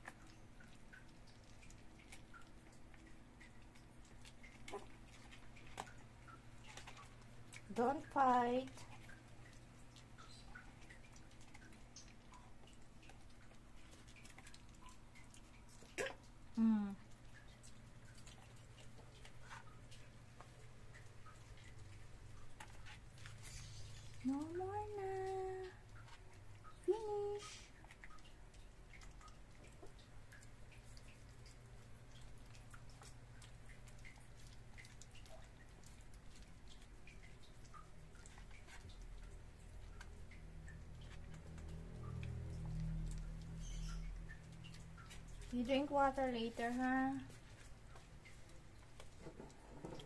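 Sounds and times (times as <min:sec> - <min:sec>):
low steady hum: 0:00.0 - 0:50.0
puppies eating off a plastic tray: 0:00.0 - 0:50.0.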